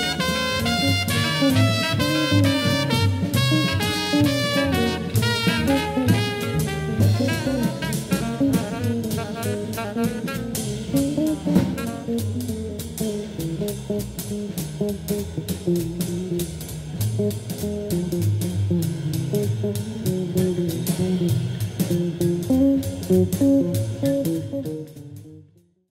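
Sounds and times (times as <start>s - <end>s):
steady drum beat: 0.0s - 25.4s
instrumental jazz-blues music: 0.0s - 25.9s.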